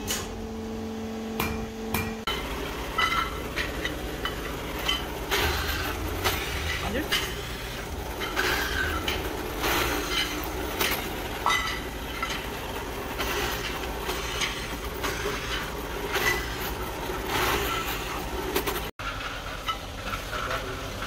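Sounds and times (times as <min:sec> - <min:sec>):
drill press motor hum: 0:00.0 - 0:18.9.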